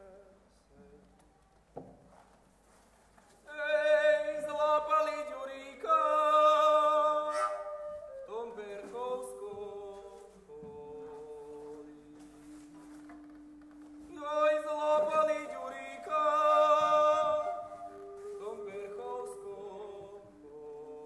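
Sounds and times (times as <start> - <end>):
person singing unaccompanied: 3.5 - 21.0.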